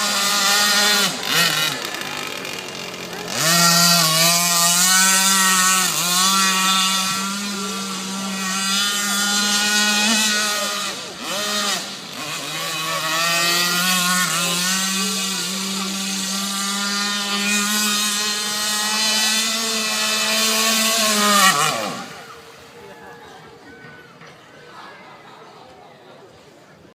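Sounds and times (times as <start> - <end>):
model boat motor running: 0.0 - 23.7.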